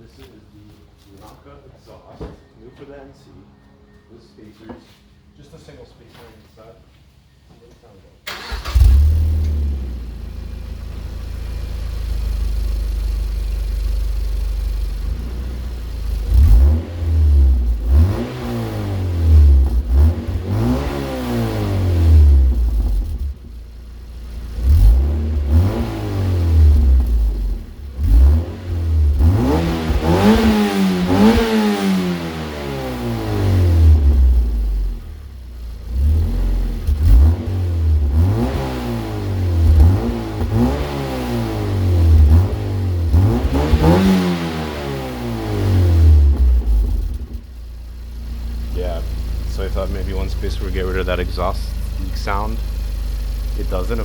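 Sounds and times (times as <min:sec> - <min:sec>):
car engine idling and revving: 0:08.3 - 0:54.0.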